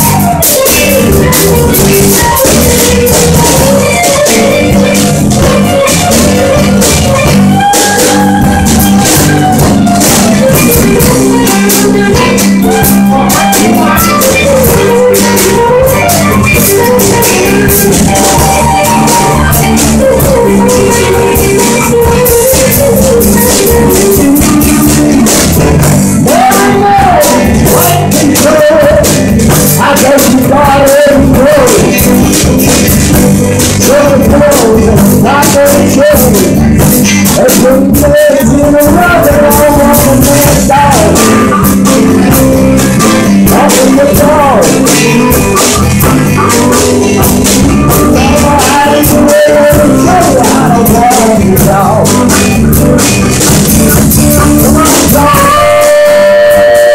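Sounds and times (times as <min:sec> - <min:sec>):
blues band playing: 0:00.0 - 0:56.9
harmonica lead line: 0:00.0 - 0:56.9.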